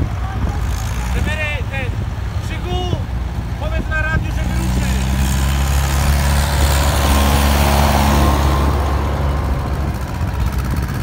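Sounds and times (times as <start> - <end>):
tractor engine passing by: 0.0 - 11.0.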